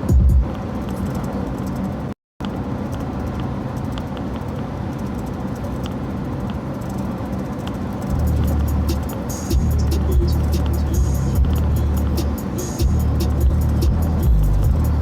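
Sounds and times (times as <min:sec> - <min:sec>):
truck engine and tyre rumble: 0:00.0 - 0:15.0.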